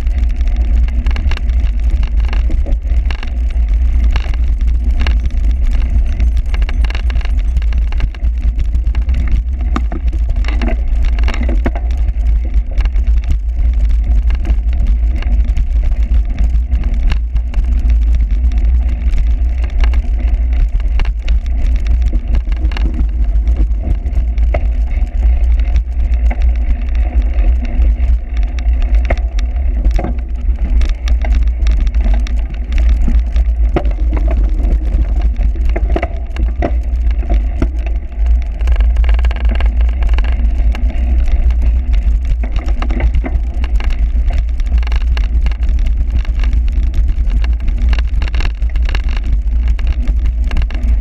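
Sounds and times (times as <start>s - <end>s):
bicycle rattling and knocking: 0.0s - 51.0s
wind rumble on microphone: 0.0s - 51.0s.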